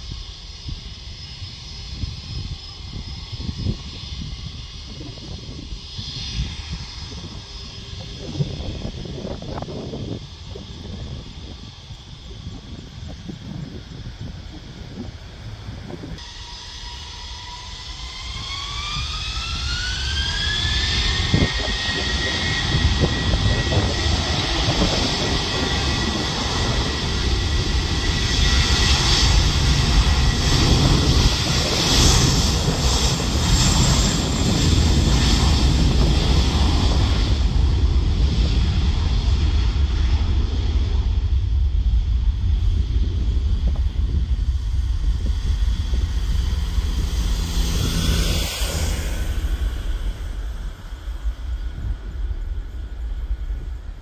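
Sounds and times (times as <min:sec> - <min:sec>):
deep jet roar: 0:00.0 - 0:54.0
jet engine whine: 0:00.0 - 0:54.0.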